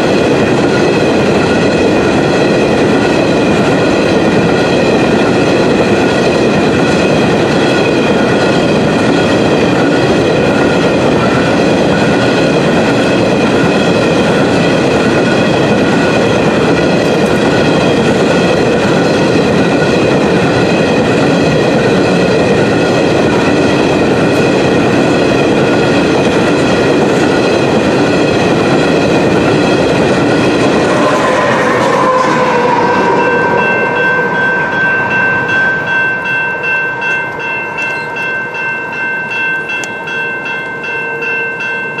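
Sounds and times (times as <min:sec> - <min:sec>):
locomotive passing: 0:00.0 - 0:41.0
train wheel clatter: 0:00.0 - 0:42.0
crossing bell ringing: 0:07.0 - 0:42.0.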